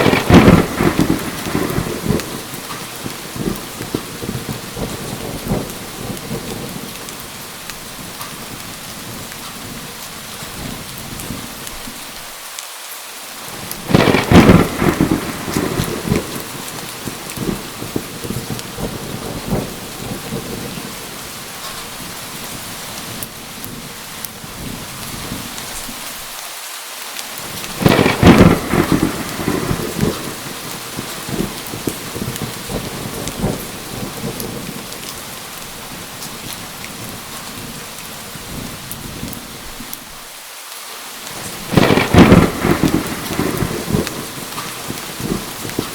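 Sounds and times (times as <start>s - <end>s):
thunderclap rumbling: 0.0s - 11.8s, 13.5s - 25.9s, 27.4s - 40.1s, 41.3s - 45.9s
heavy rain: 0.0s - 45.9s.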